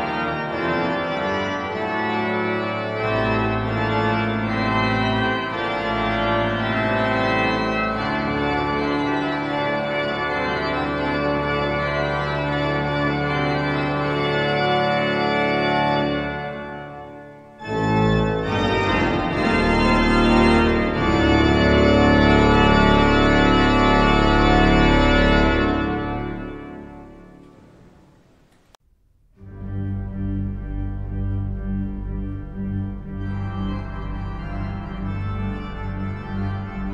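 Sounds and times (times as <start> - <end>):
organ playing held chords: 0.0 - 28.2, 29.1 - 36.9.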